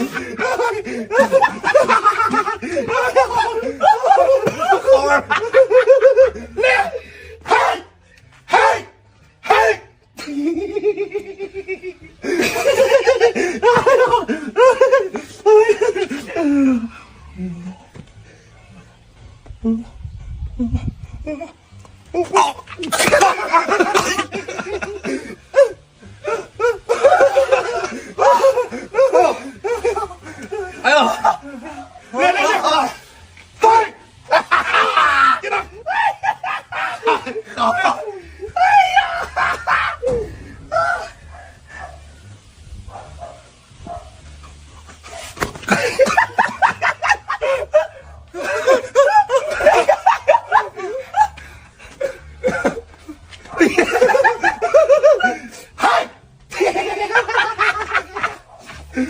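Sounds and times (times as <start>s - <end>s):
people laughing: 0.0s - 19.0s, 21.2s - 41.9s, 44.4s - 59.0s.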